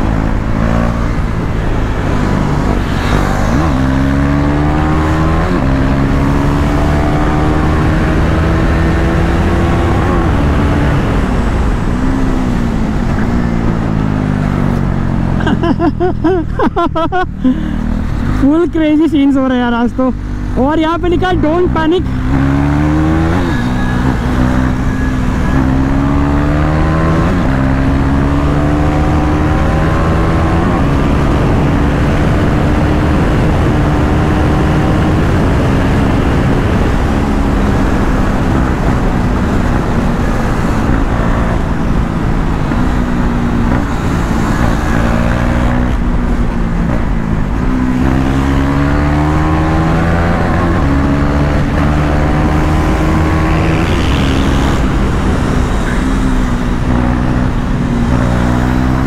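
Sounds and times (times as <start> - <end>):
motorcycle engine revving: 0.0 - 16.1, 17.2 - 59.0.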